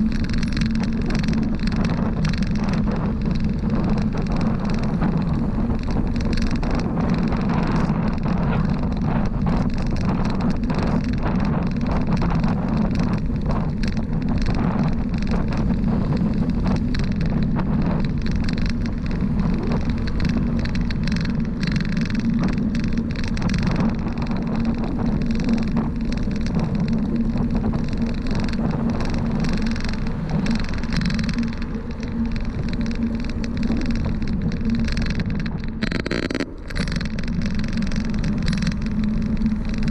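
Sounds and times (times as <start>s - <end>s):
bicycle road noise hum: 0.0s - 39.9s
small clicks and rattles: 0.0s - 39.9s.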